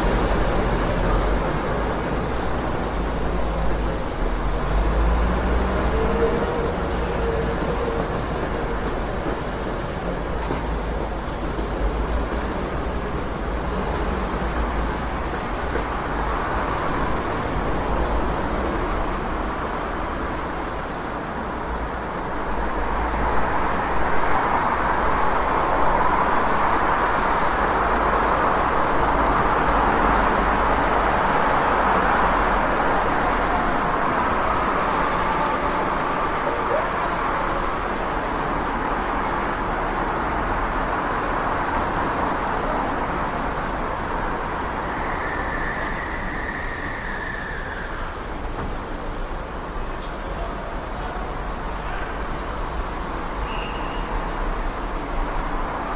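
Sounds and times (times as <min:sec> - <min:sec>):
passing vehicles: 0:00.0 - 0:55.9.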